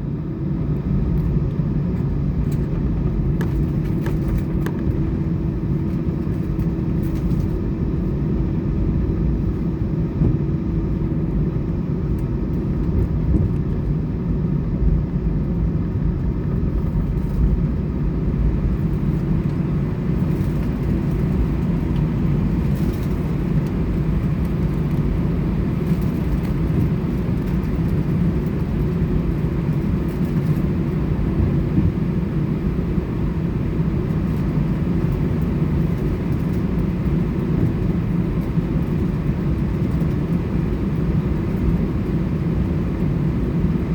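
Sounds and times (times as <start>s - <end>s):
aircraft cabin rumble: 0.0s - 43.9s.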